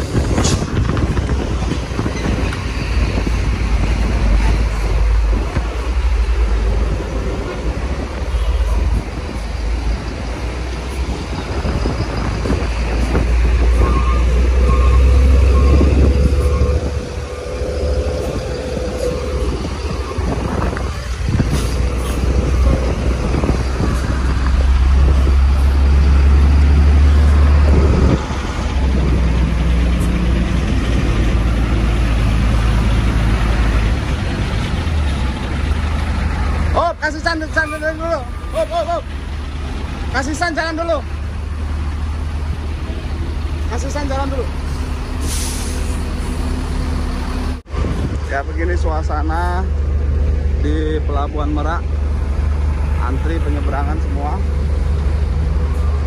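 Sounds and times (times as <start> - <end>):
diesel truck engines rumbling: 0.0 - 56.0.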